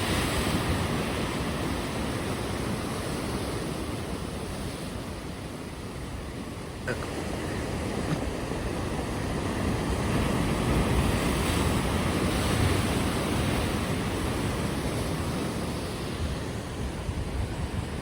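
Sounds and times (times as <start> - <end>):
ocean surf breaking on shore: 0.0 - 18.0.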